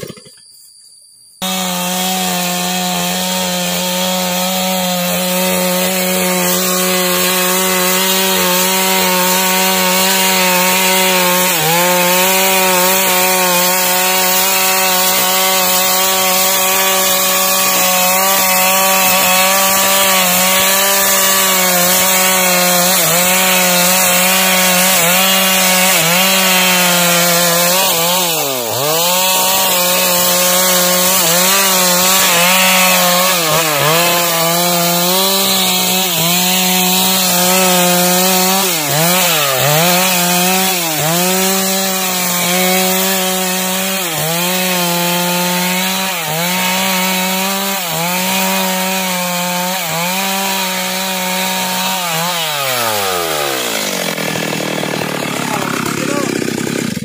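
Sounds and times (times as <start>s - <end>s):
chainsaw cutting log: 0.0s - 0.4s, 1.4s - 57.0s.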